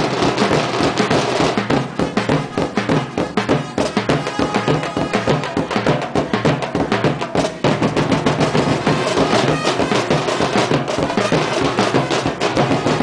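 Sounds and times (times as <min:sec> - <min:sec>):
drum and percussion ensemble: 0:00.0 - 0:13.0.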